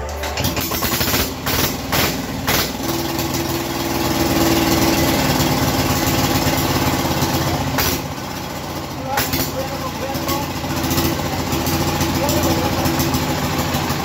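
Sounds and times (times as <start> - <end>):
diesel engine knocking: 0.0 - 14.0.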